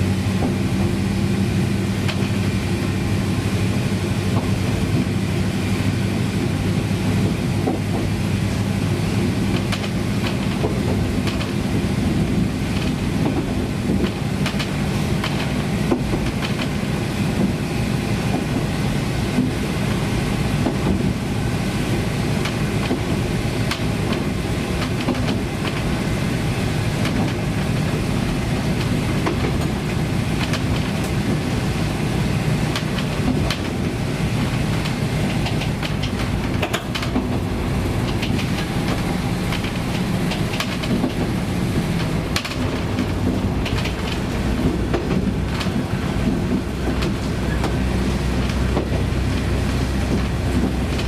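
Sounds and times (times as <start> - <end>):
diesel engine droning: 0.0 - 51.0
wheels clicking over rail joints: 0.0 - 51.0.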